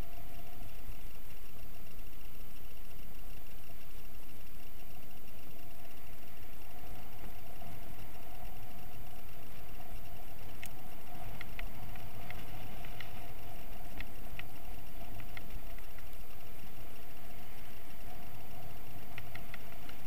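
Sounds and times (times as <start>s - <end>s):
light ticks: 0.0s - 20.0s.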